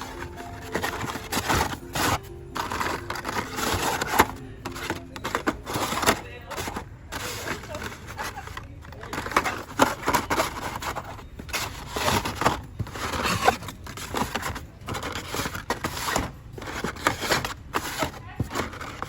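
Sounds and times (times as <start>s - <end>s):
plastic and cardboard rustling: 0.0s - 19.0s.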